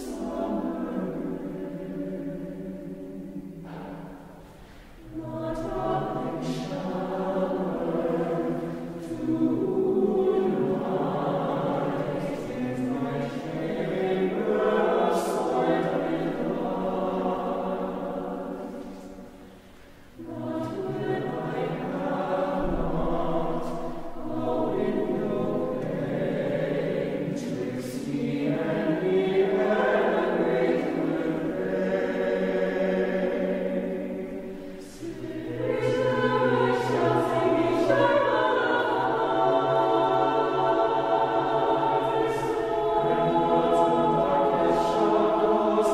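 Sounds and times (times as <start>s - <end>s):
choir singing a cappella: 0.0s - 45.9s.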